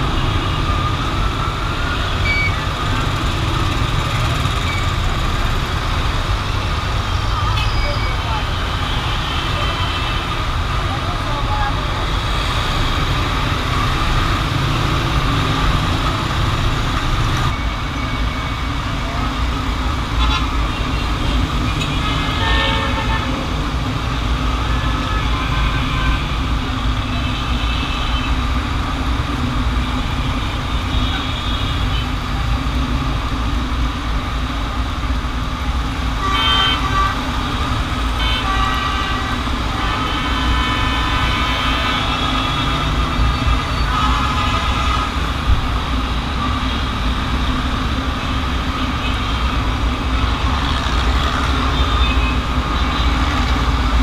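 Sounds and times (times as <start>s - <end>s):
traffic engines rumbling: 0.0s - 54.0s.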